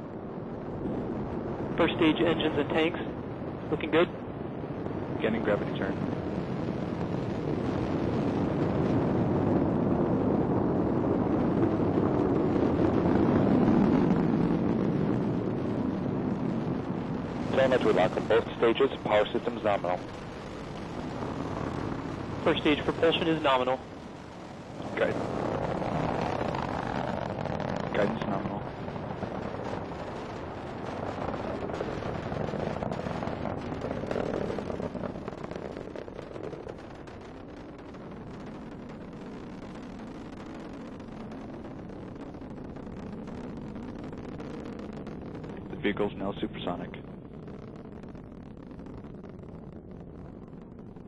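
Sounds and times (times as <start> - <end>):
rocket engines low rumble: 0.0 - 51.0.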